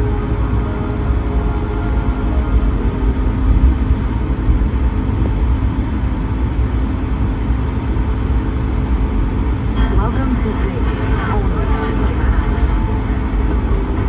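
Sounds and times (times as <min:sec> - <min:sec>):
engine and cabin hum: 0:00.0 - 0:14.0.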